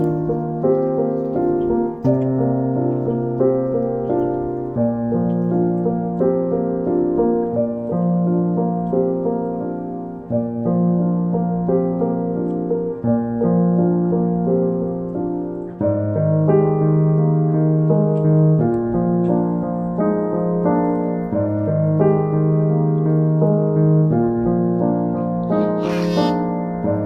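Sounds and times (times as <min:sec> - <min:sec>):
slow solo piano chords: 0:00.0 - 0:27.0.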